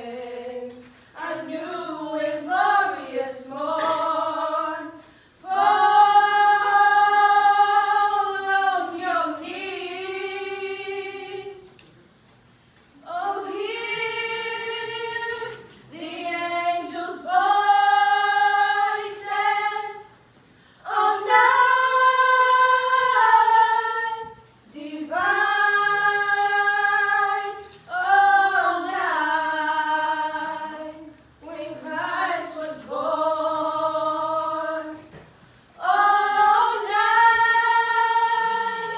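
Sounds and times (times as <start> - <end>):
girls singing a cappella: 0.0 - 12.2, 12.9 - 38.9.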